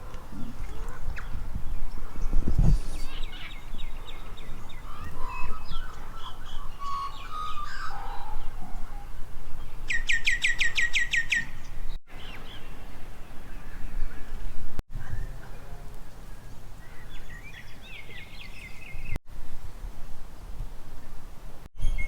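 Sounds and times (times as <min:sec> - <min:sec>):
birds calling and singing: 0:00.0 - 0:19.2.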